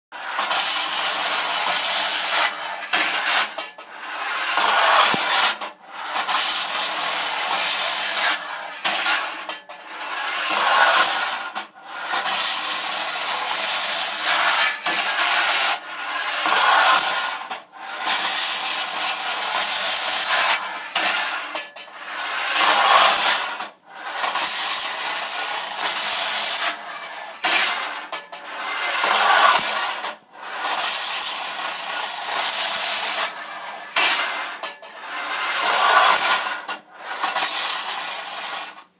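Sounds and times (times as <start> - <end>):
clockwork toy metallic rattling whirr: 0.2 - 38.9.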